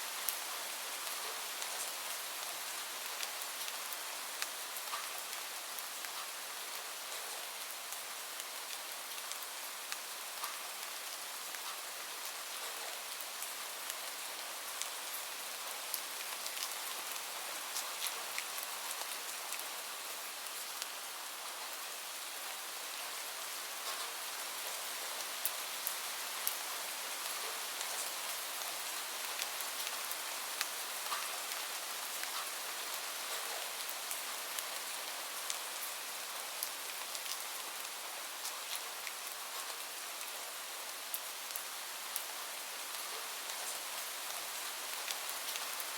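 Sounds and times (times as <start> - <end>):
gentle rain hiss: 0.0 - 45.9.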